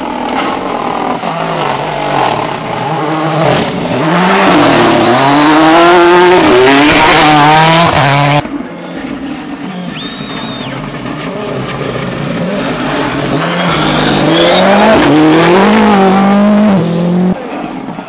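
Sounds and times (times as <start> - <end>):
rally car engine upshifting: 0.0 - 17.9.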